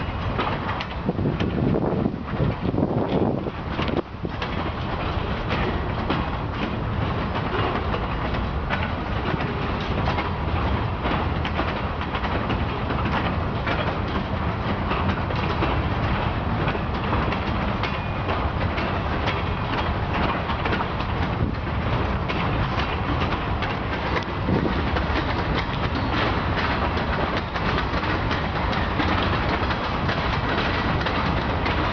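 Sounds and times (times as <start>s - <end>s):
freight train rumbling past: 0.0s - 31.9s
wheels clicking over rail joints: 0.0s - 31.9s.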